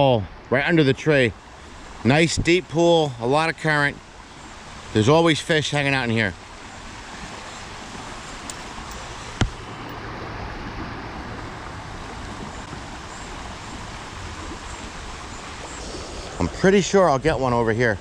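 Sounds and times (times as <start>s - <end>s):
stream rushing over rocks: 1.3s - 18.0s.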